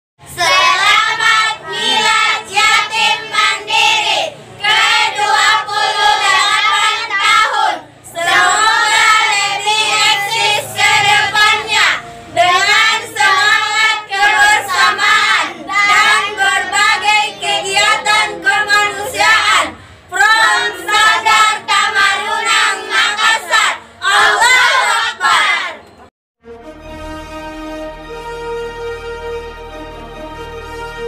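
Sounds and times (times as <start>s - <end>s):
children and women singing: 0.2s - 26.0s.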